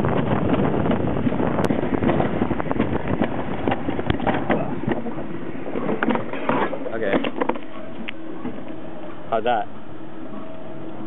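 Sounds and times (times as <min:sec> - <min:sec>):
wind rushing over microphone: 0:00.0 - 0:09.3
bobsled rattling along track: 0:00.0 - 0:11.0.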